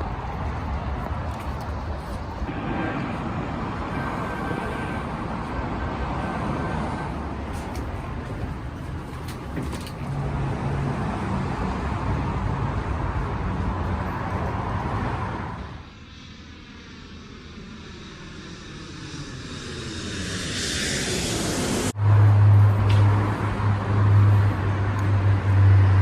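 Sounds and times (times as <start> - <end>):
road traffic noise: 0.0 - 26.0
vehicle rumble: 0.0 - 26.0.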